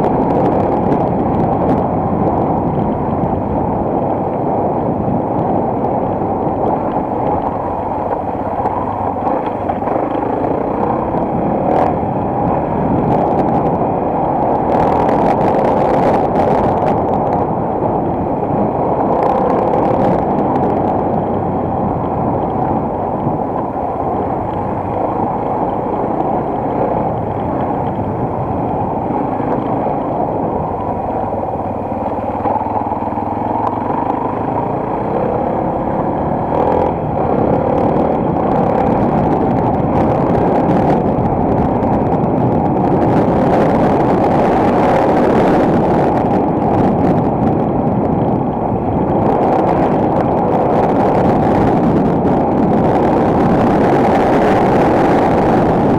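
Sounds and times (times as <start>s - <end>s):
motorcycle engine: 0.0s - 55.9s
wind noise: 0.0s - 55.9s.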